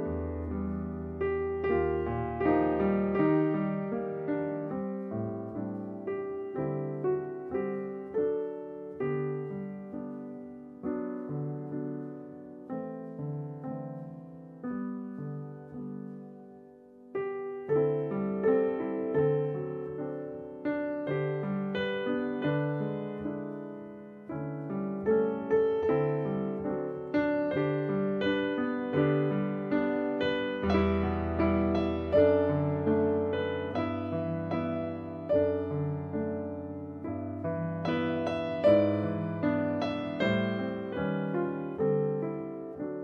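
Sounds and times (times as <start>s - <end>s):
slow piano music: 0.0s - 43.0s.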